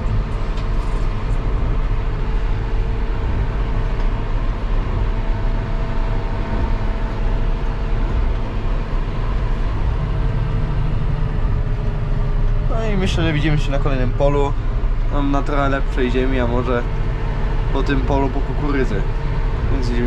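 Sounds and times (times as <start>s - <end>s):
tractor engine running under load: 0.0s - 20.0s.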